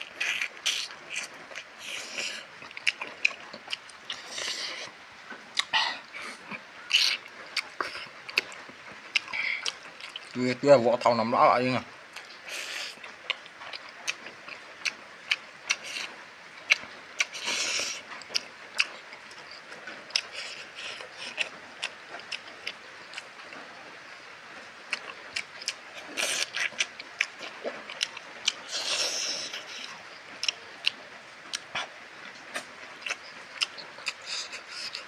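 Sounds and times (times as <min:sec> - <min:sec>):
wet lip-smacks and chewing: 0:00.0 - 0:05.0, 0:05.6 - 0:10.4, 0:12.2 - 0:23.7, 0:24.9 - 0:35.0.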